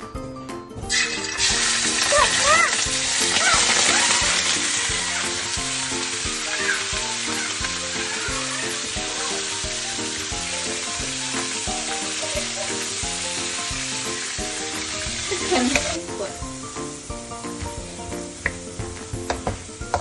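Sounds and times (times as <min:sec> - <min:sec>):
chicken sizzling in hot oil: 0:00.9 - 0:20.0.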